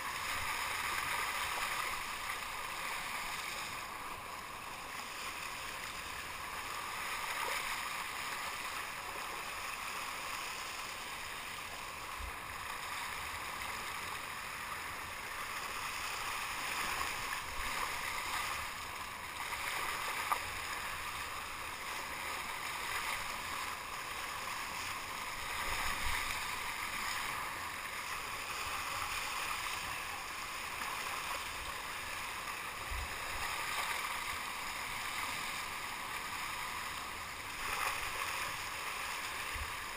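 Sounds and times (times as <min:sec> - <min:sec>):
paddle churning water: 0:00.0 - 0:39.9
water rushing along kayak hull: 0:00.0 - 0:39.9.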